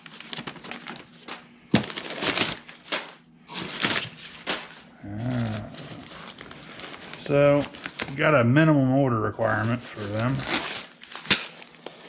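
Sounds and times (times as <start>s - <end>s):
packing material rustling: 0.0s - 8.4s, 9.4s - 12.0s.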